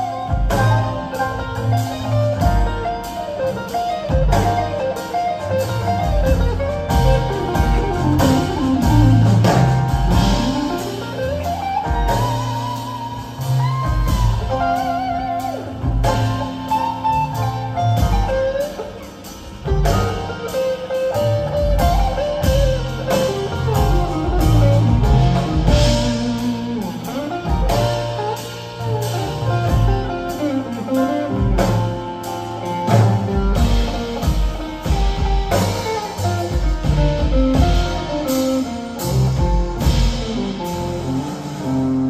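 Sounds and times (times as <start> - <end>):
electric guitar melody: 0.0 - 42.0
jazz quartet playing: 0.0 - 42.0.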